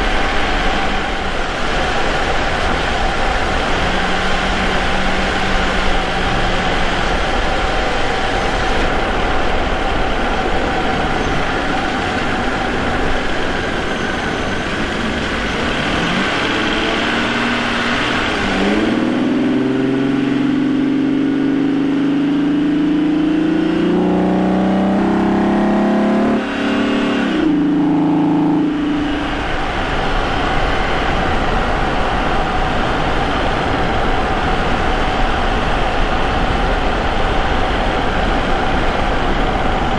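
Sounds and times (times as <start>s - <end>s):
car engine cruising: 0.0s - 39.9s
road noise: 0.0s - 39.9s.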